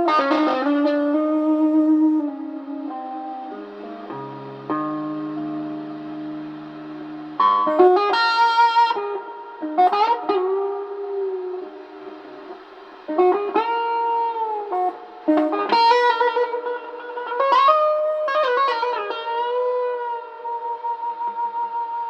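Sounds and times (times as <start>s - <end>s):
guitar through effects: 0.0s - 22.0s.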